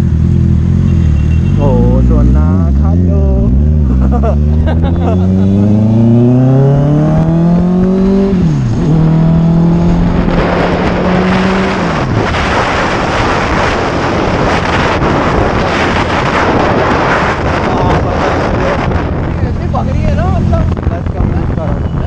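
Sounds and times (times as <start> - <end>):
motorcycle engine accelerating: 0.0 - 22.0
wind rush on microphone: 3.6 - 22.0.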